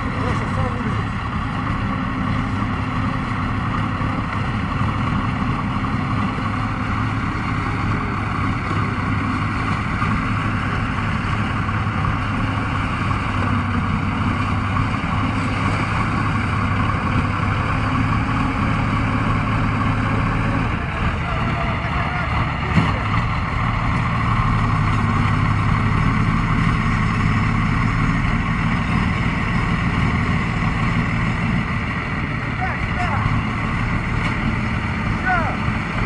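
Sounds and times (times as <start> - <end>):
tracked vehicle engine droning: 0.0 - 36.0.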